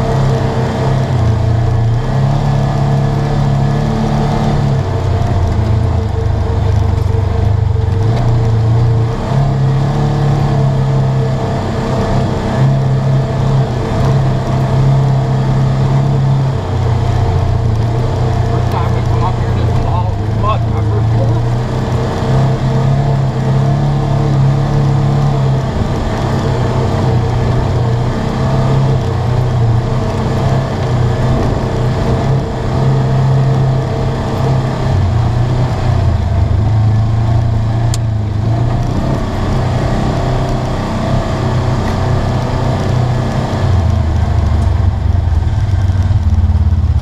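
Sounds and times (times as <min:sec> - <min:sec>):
engine running from inside cab: 0:00.0 - 0:47.0.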